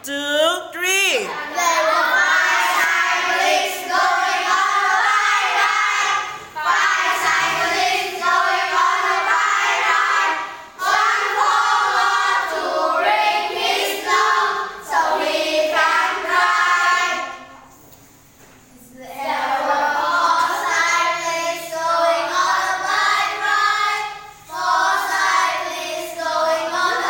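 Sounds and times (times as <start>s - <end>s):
children singing together: 1.4s - 17.5s, 19.0s - 27.0s.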